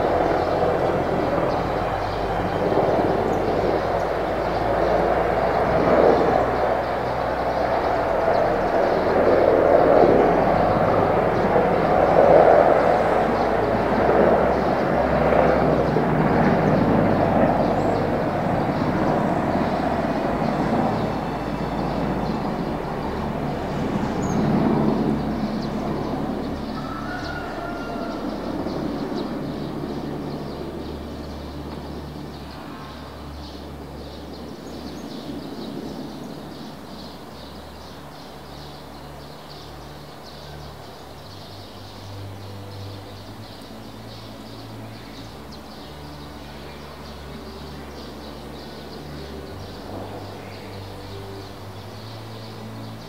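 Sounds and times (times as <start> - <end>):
birds chirping: 0.0 - 53.0
passing vehicle rumble: 0.0 - 53.0
steady low hum: 0.0 - 53.0.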